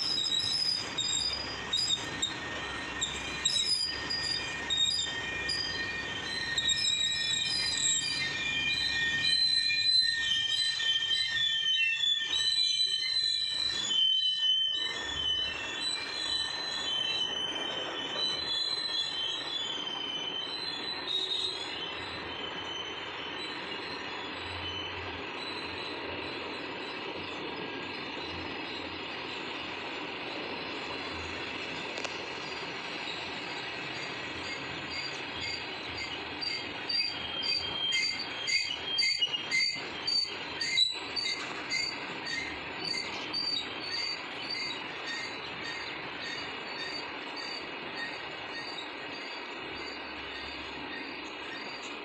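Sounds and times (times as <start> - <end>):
train rolling rumble: 0.0 - 11.5, 14.8 - 52.0
train wheels squealing: 0.0 - 52.0.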